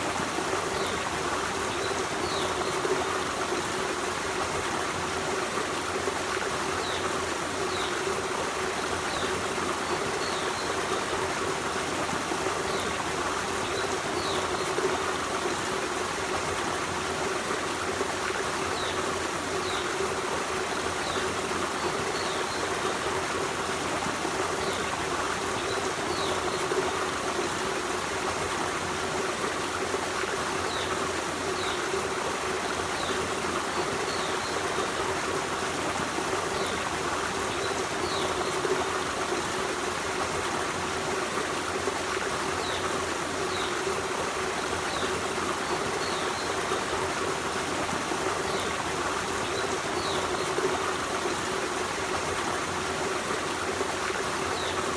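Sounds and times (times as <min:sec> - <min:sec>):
stream running over rocks: 0:00.0 - 0:54.9.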